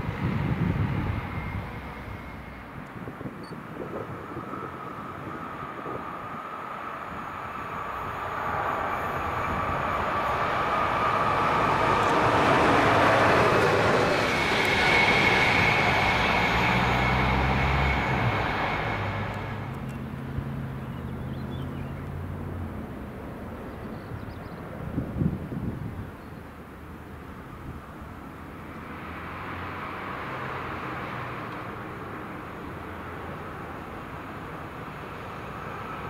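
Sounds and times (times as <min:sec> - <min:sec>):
electric train passing: 0:00.0 - 0:23.7, 0:26.6 - 0:36.0.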